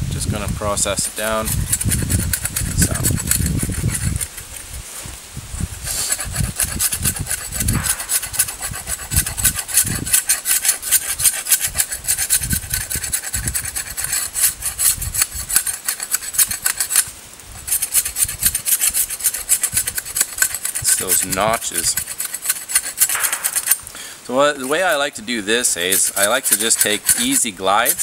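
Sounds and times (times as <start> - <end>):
knife scraping wooden stick: 1.0 - 28.0.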